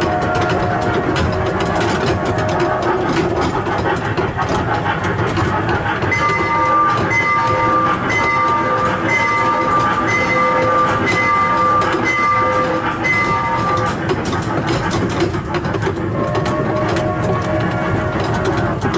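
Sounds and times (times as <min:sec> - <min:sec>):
train motor rumbling: 0:00.0 - 0:18.9
train wheels clacking: 0:00.0 - 0:18.9.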